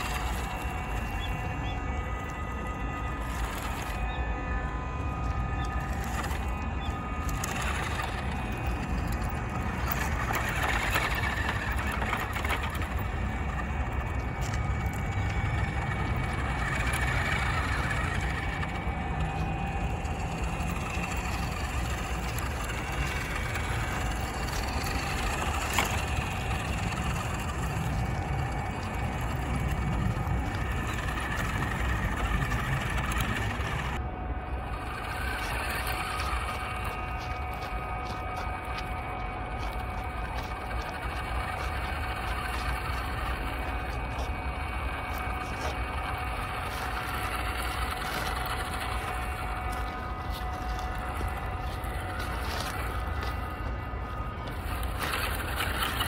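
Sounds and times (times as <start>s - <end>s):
tyres crackling over dry leaves: 0.0s - 34.0s, 34.6s - 56.0s
toy truck motor whine: 0.0s - 56.0s.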